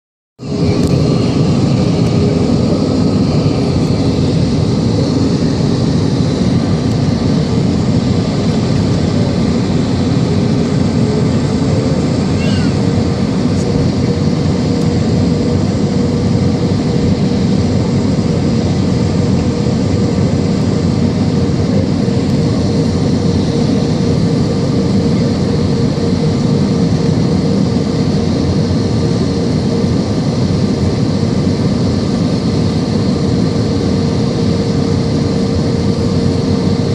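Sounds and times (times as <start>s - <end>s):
jet engine rumble and whine: 0.4s - 36.9s.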